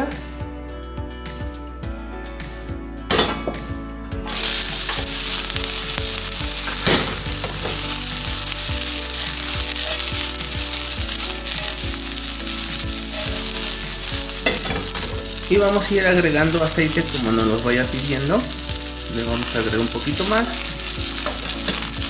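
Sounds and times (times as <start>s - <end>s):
onion sizzling in a pan: 4.3s - 22.0s.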